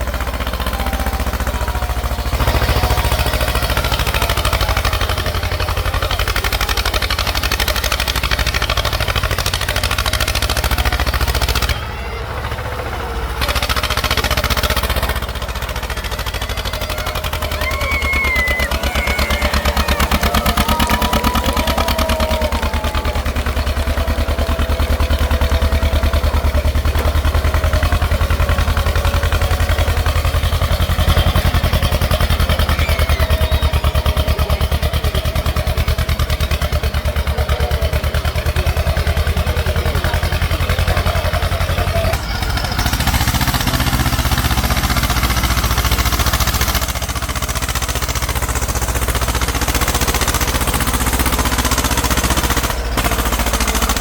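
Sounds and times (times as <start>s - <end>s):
tractor engine clattering: 0.0s - 54.0s.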